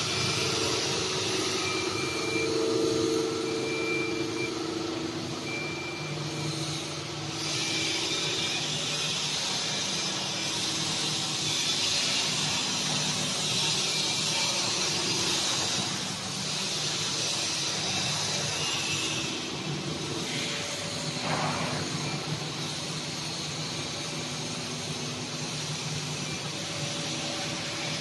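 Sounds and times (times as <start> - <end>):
hydraulic machine humming and hissing: 0.0 - 28.0.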